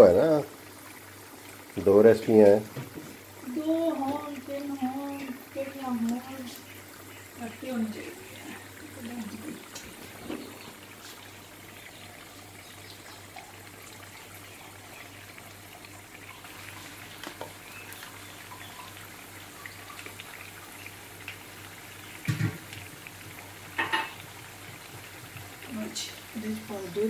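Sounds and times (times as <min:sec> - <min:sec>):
food deep-frying in hot oil: 0:00.0 - 0:27.0.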